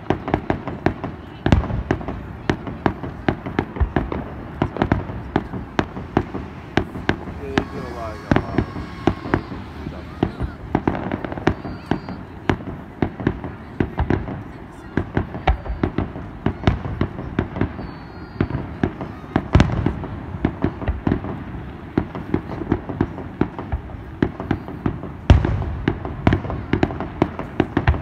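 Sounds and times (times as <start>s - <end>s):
fireworks bangs and crackles: 0.0s - 28.0s
heavy firework booms: 0.0s - 28.0s.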